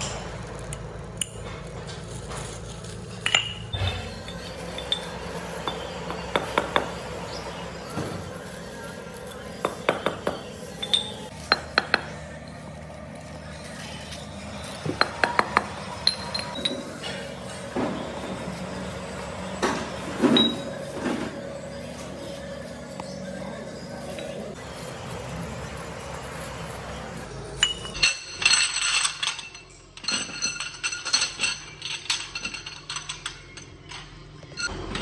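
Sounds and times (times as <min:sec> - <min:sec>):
metal parts clinking: 0:00.0 - 0:06.0, 0:10.6 - 0:35.0.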